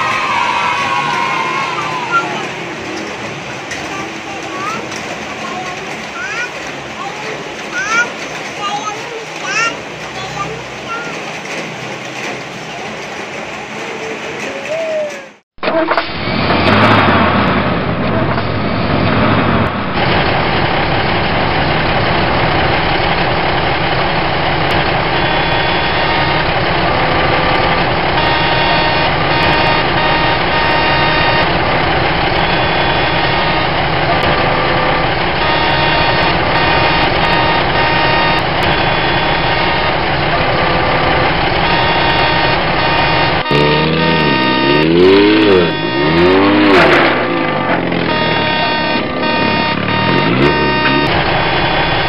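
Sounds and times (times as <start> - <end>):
truck engine rumbling: 0.0 - 52.0.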